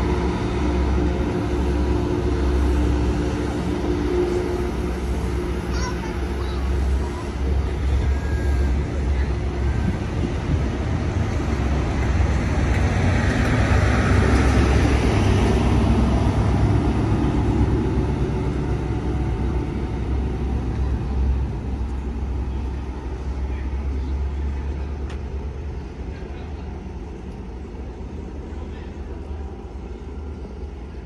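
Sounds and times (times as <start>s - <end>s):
diesel engine: 0.0s - 31.0s
train wheels rumbling on rail: 0.0s - 31.0s.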